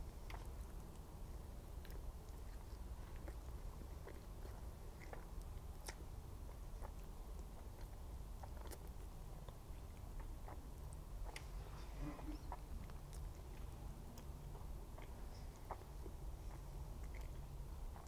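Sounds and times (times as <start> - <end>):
chewing with mouth clicks: 0.0 - 18.0
low room hum: 0.0 - 18.0.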